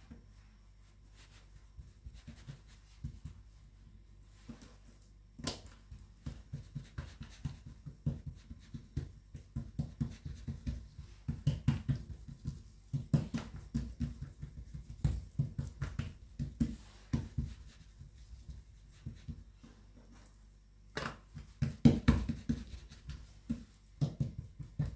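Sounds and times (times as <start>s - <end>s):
hands patting dough: 1.0s - 24.9s.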